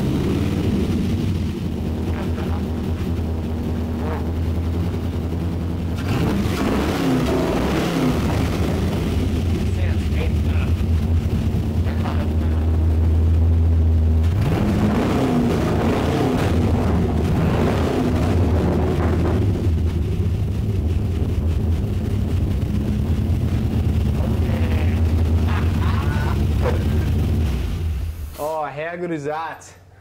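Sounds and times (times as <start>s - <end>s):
car engine idling and revving: 0.0s - 28.4s.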